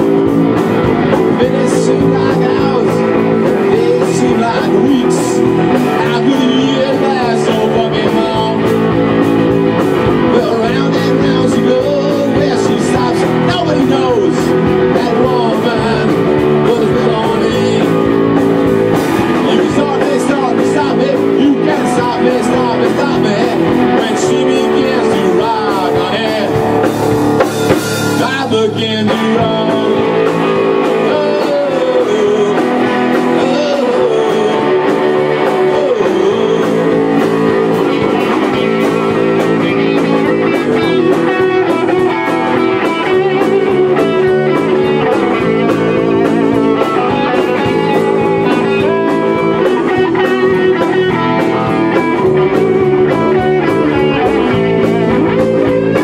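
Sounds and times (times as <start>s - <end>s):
lead guitar bending notes: 0.0s - 56.0s
live rock band playing: 0.0s - 56.0s.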